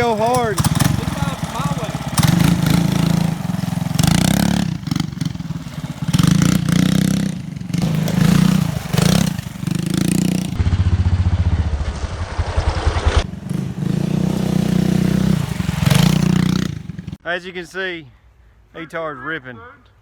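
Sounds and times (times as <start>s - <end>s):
minibike engine revving: 0.0s - 17.2s.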